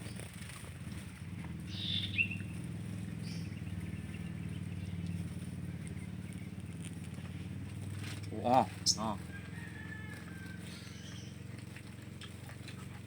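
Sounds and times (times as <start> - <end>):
motor engine idling: 0.0 - 13.0.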